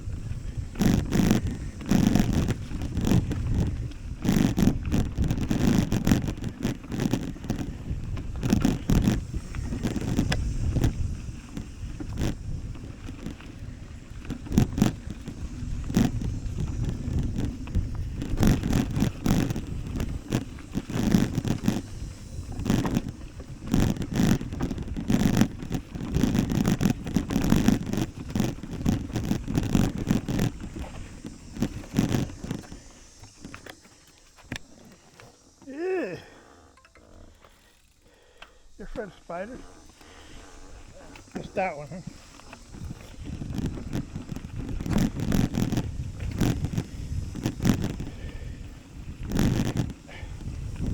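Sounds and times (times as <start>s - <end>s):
wind on microphone: 0.0s - 36.4s, 38.6s - 50.9s
bicycle knocking and rattling: 0.0s - 50.9s
bicycle rumbling: 0.0s - 50.9s.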